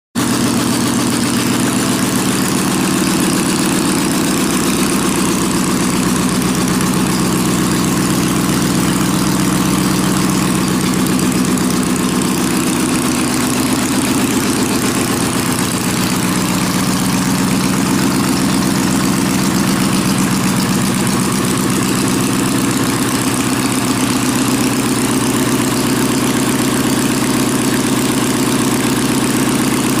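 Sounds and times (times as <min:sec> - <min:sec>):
car engine idling: 0:00.2 - 0:30.0.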